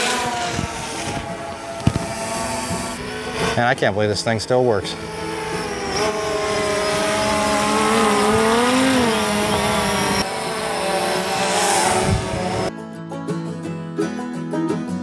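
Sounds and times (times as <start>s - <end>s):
drone propellers buzzing: 0.0s - 12.7s.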